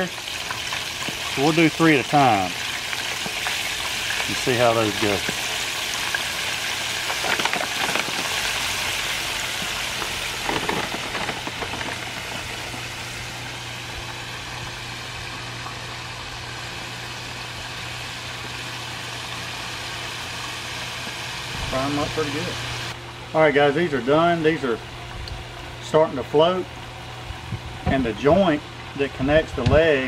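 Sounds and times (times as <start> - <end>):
deep-frying sizzle: 0.0 - 30.0
low motor hum: 5.2 - 29.9.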